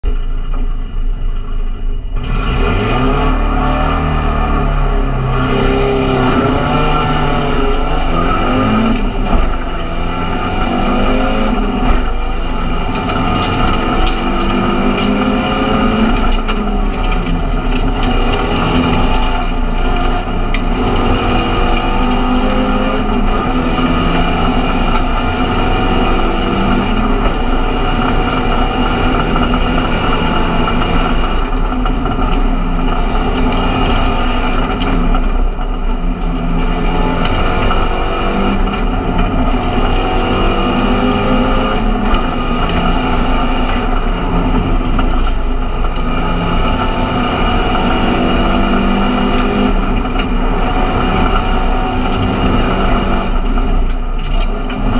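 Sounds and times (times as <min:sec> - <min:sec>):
race car engine revving: 0:02.0 - 0:54.9.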